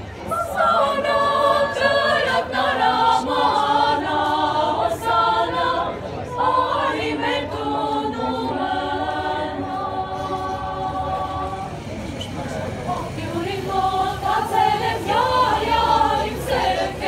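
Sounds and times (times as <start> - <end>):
choir singing a cappella: 0.2 - 17.0.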